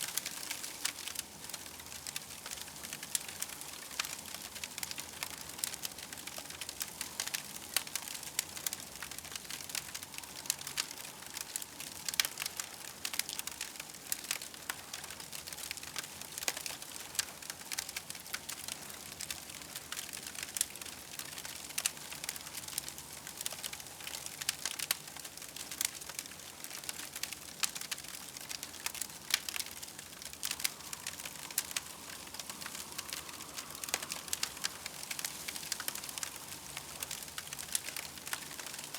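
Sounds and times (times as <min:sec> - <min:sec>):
campfire crackling: 0:00.0 - 0:38.9
soft hiss: 0:00.0 - 0:38.9.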